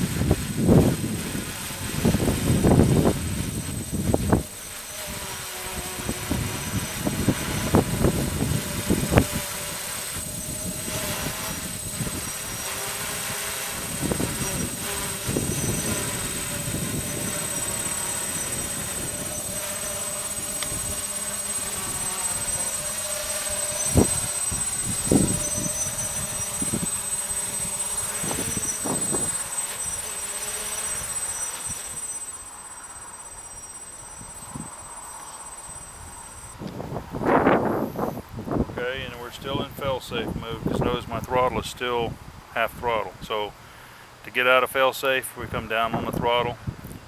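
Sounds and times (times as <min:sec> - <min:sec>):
wind on microphone: 0:00.0 - 0:32.1, 0:34.2 - 0:34.8, 0:35.8 - 0:43.2, 0:45.5 - 0:47.0
drone propellers humming: 0:00.0 - 0:38.2.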